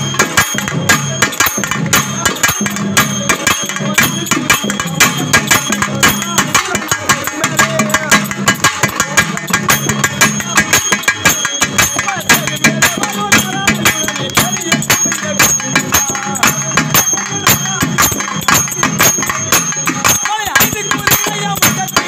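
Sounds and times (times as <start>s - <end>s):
fast drum strokes: 0.0s - 22.0s
steady metallic ringing: 0.0s - 22.0s.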